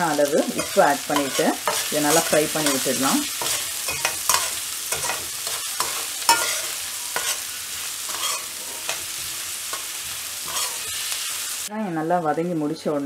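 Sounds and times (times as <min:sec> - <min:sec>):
onions sizzling in hot oil: 0:00.0 - 0:13.0
spoon scraping a pan: 0:00.2 - 0:11.6.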